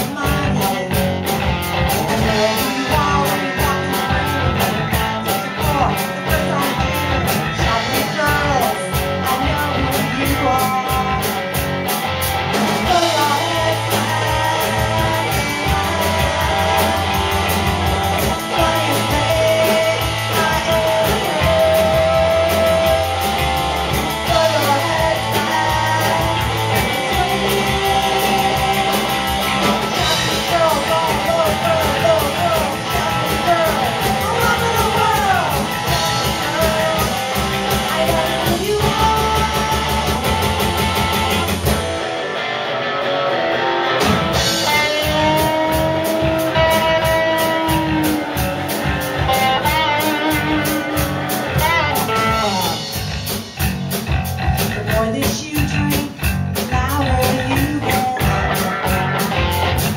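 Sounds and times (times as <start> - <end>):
person singing: 0.0 - 11.6, 12.6 - 41.8, 44.3 - 59.9
rock band playing: 0.0 - 59.9.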